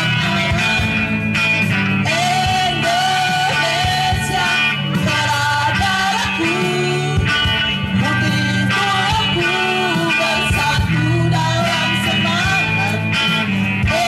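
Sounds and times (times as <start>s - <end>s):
women's vocal group singing: 0.0s - 1.2s, 2.0s - 13.1s, 13.8s - 14.0s
amplified backing music: 0.0s - 14.0s.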